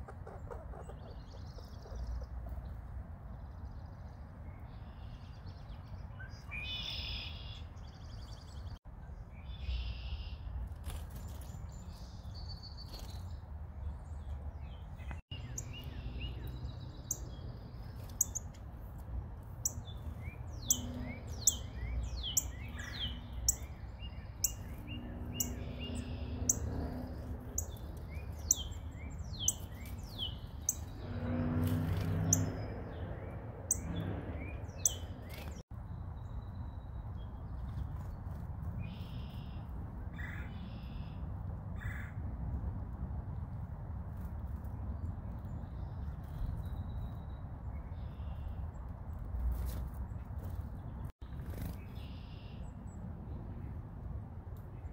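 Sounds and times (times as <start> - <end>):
songbirds chirping: 0.0 - 42.0, 44.5 - 53.9.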